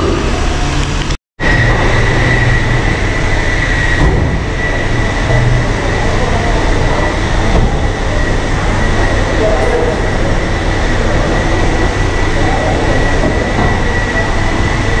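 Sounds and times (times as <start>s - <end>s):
high-pitched whine: 0.0s - 15.0s
loud mechanical rumble: 0.0s - 15.0s.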